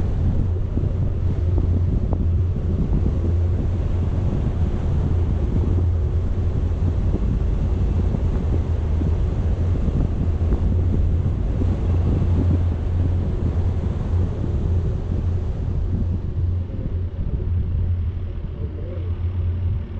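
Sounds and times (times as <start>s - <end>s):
low vehicle rumble: 0.0s - 19.9s
wind buffeting microphone: 0.0s - 19.9s.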